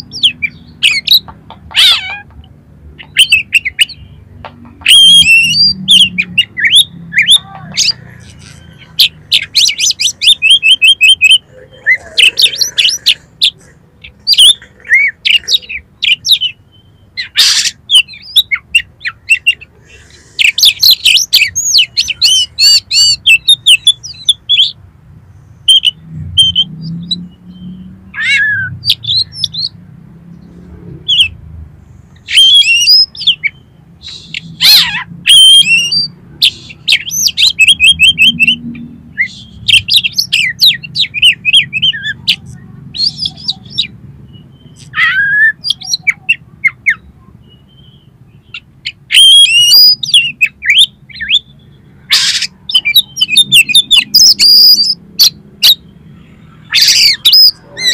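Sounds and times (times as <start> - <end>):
bird singing: 0.0 - 31.4, 32.1 - 57.9.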